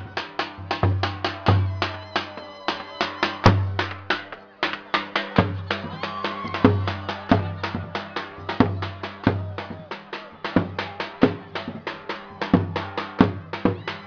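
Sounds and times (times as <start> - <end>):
big drum beating: 0.0 - 14.0.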